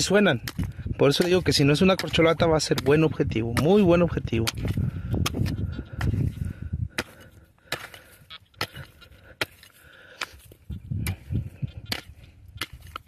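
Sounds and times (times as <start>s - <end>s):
hand pick striking stony dirt: 0.0s - 13.0s.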